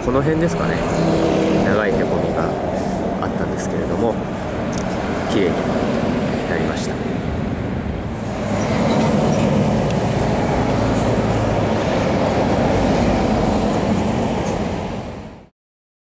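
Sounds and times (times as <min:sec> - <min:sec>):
train rumbling past: 0:00.0 - 0:15.5.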